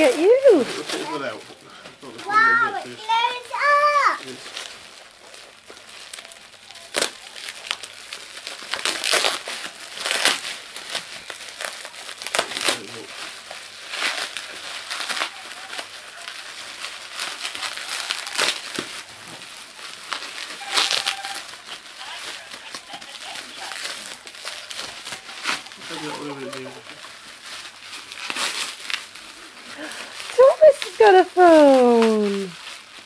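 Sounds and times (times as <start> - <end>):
plastic wrapping crinkling: 0.0 - 33.0.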